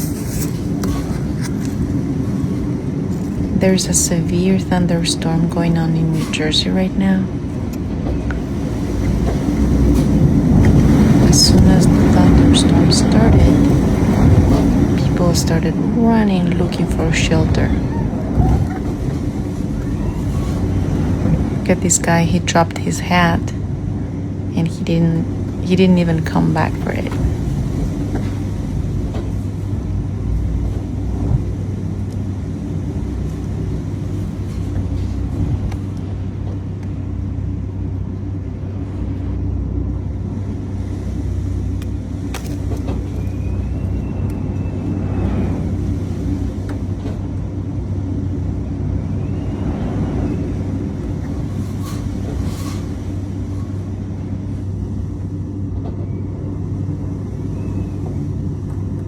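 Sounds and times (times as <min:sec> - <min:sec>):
constant hum: 0:00.0 - 0:59.0
street traffic rumble: 0:00.0 - 0:59.0.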